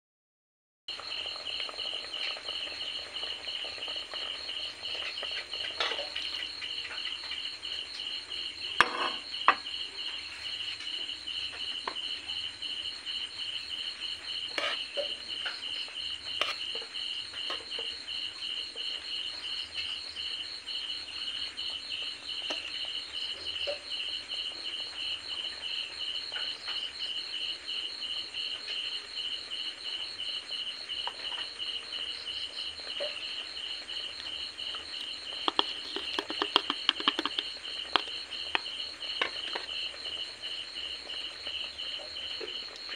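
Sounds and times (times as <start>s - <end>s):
insects trilling: 0.9s - 42.9s.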